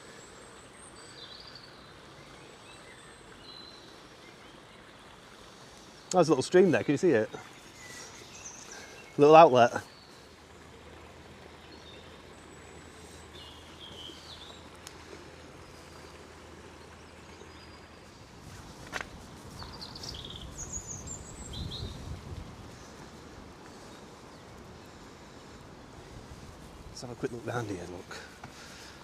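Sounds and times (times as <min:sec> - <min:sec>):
songbirds chirping: 0:00.0 - 0:29.0
steady outdoor hiss: 0:00.0 - 0:29.0.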